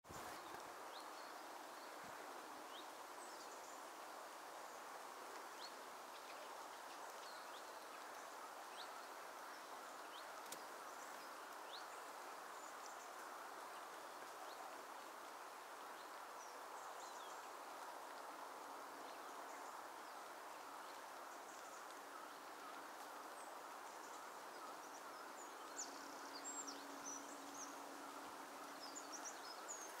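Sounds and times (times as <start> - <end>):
faint outdoor background hiss: 0.0 - 30.0.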